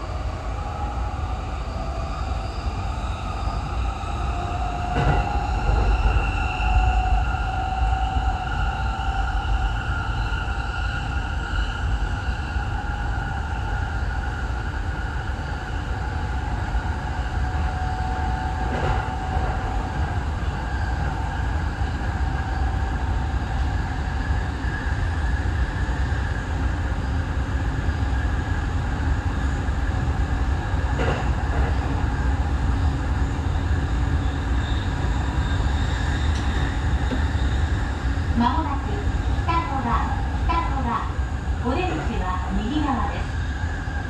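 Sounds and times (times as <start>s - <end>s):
electric train rumble and whine: 0.0s - 44.0s.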